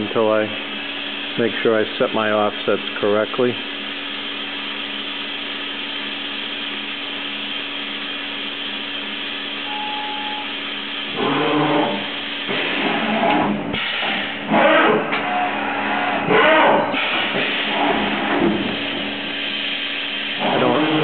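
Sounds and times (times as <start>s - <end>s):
machine hum and hiss: 0.0s - 21.0s.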